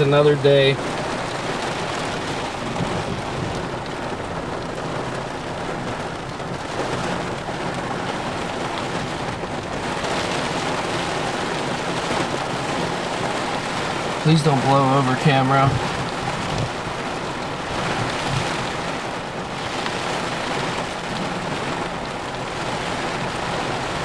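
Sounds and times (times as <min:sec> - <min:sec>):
heavy rain downpour: 0:00.0 - 0:24.0.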